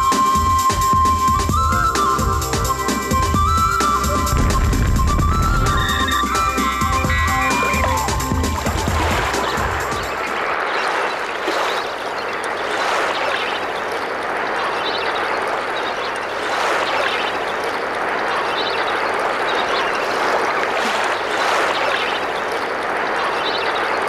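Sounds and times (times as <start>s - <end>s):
water birds calling: 0.0s - 24.0s
water rushing: 0.0s - 24.0s.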